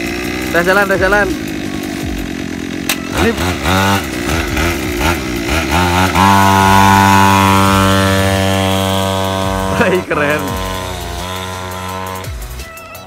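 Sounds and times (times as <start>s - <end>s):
scooter engine revving: 0.0s - 13.0s.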